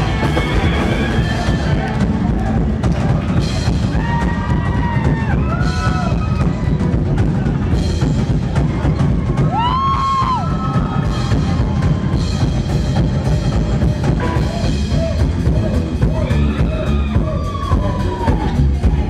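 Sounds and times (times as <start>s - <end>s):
drum kit: 0.0s - 19.0s
rockabilly band playing: 0.0s - 19.0s.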